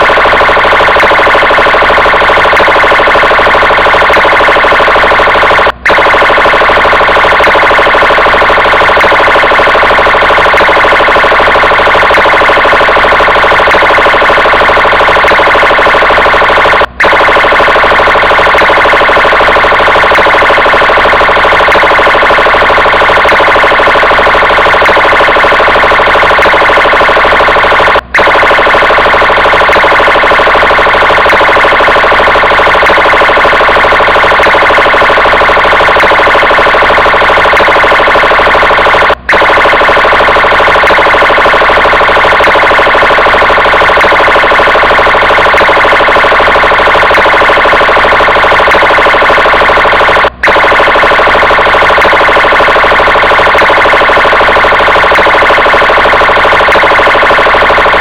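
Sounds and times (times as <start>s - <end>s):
electronic police siren: 0.0s - 58.0s.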